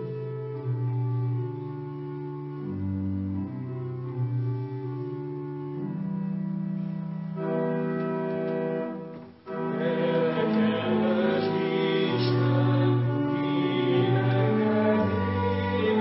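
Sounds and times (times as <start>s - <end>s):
church organ playing hymn chords: 0.0s - 16.0s.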